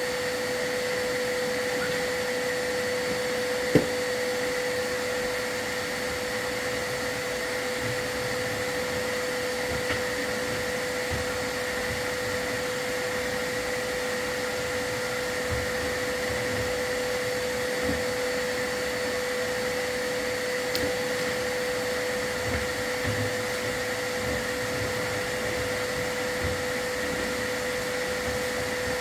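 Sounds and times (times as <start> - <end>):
vacuum whining: 0.0 - 29.0.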